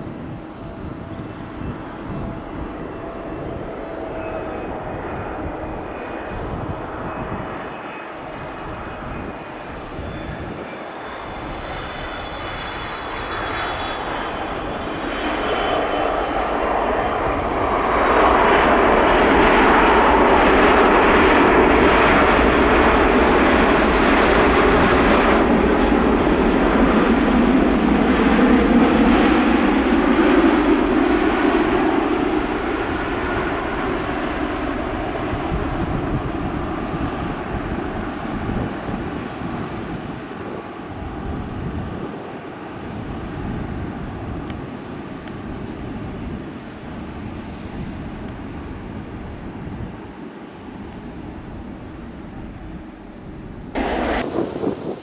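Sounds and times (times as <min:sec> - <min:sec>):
jet airliner landing: 0:00.0 - 0:55.0.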